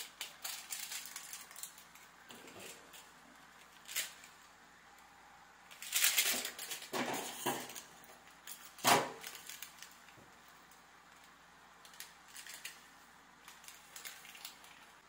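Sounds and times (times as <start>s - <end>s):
plastic sachets crinkling and tearing: 0.0s - 4.4s, 5.6s - 15.0s.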